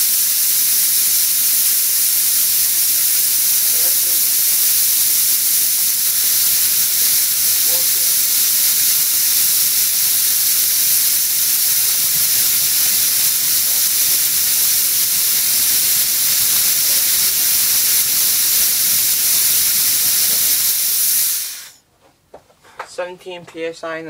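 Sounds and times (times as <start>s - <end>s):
compressed air hissing from air gun: 0.0s - 21.8s.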